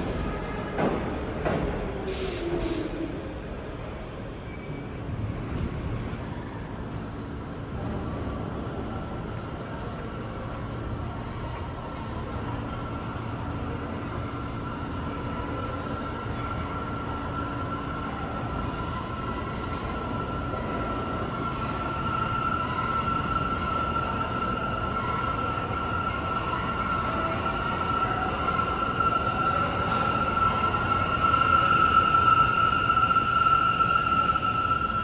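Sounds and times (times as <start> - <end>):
subway train rumble and whine: 0.0 - 35.0.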